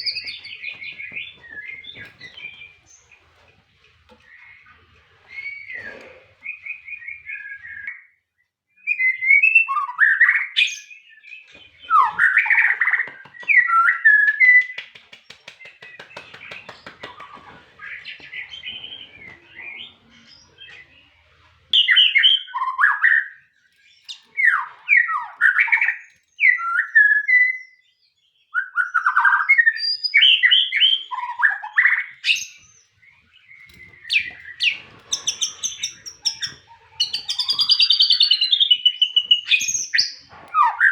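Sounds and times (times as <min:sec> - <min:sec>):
songbird singing: 0:00.0 - 0:08.1, 0:08.8 - 0:40.9.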